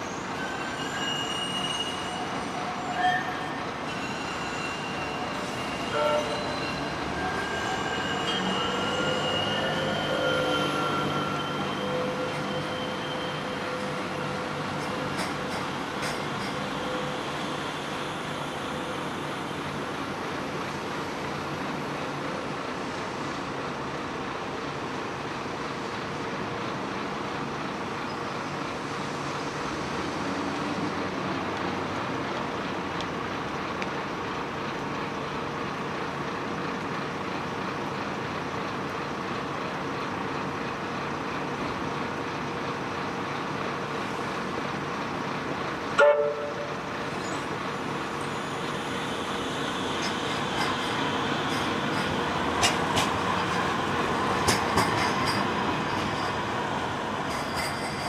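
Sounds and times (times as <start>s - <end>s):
city traffic noise: 0.0s - 58.0s
tram hum: 0.0s - 58.0s.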